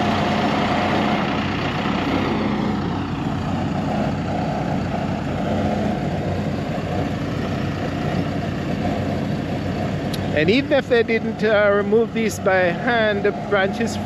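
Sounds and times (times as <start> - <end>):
heavy engine humming: 0.0 - 14.0.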